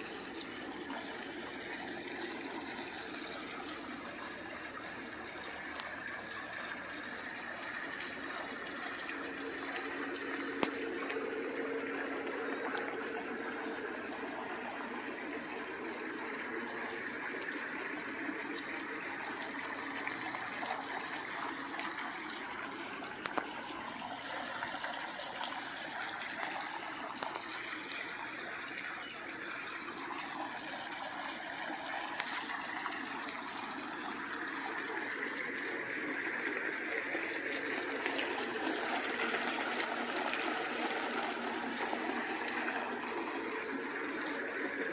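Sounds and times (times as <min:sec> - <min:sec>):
water running and trickling: 0:00.0 - 0:44.9.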